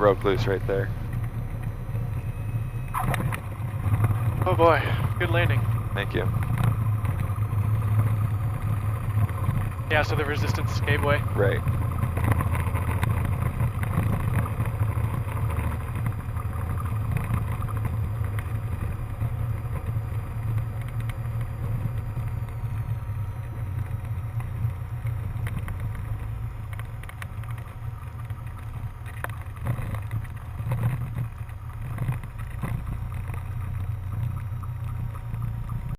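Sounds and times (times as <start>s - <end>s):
airplane engine droning: 0.0s - 35.9s.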